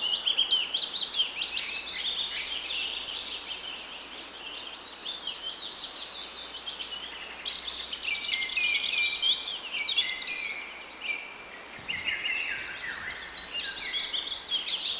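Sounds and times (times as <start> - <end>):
songbirds chirping and trilling: 0.0 - 14.9.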